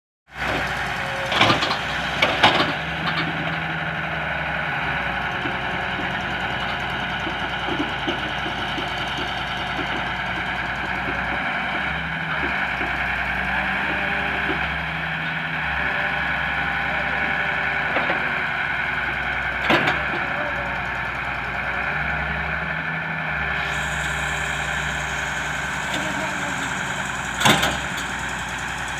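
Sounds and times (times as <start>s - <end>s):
diesel engines running: 0.3s - 28.9s.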